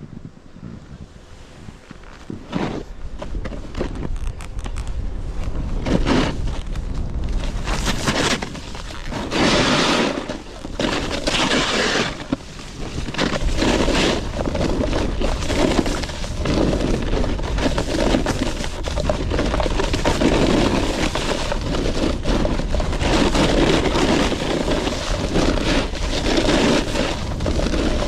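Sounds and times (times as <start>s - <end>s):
wind on microphone: 0.0s - 28.0s
snowboard scraping across snow: 0.1s - 4.4s, 5.0s - 28.0s.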